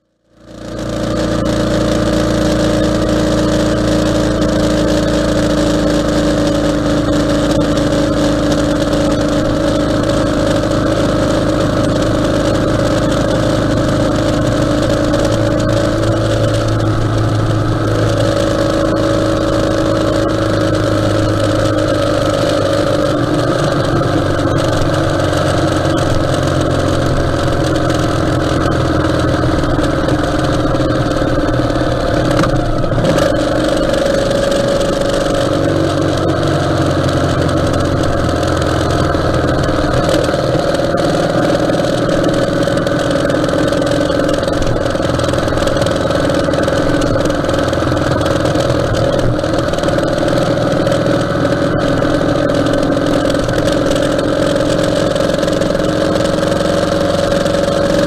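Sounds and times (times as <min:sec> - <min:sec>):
motorcycle engine running: 0:00.0 - 0:58.0
wind and road noise: 0:00.4 - 0:58.0.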